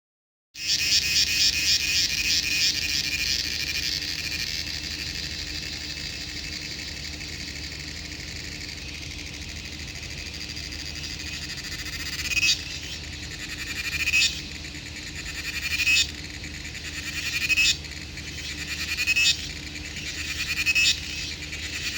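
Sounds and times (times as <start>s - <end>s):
cricket chirping: 0.6s - 21.9s.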